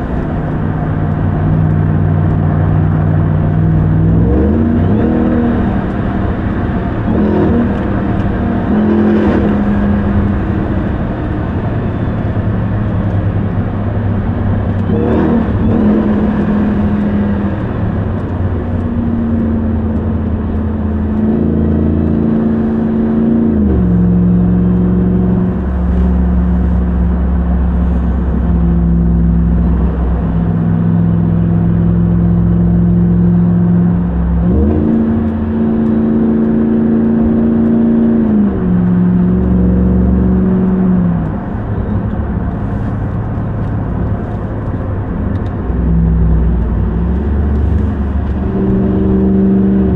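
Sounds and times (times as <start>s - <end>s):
truck engine running with gear changes: 0.0s - 49.9s.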